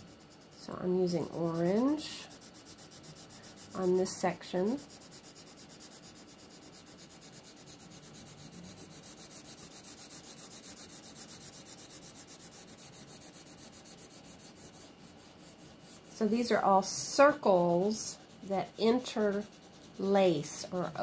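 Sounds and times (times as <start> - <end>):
pencil scratching on paper: 0.0 - 21.0.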